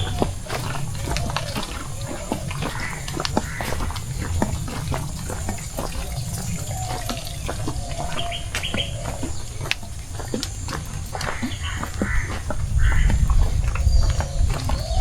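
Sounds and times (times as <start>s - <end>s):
rain falling: 0.0s - 13.0s
bird call: 0.0s - 15.0s
water drips and splats: 0.0s - 15.0s.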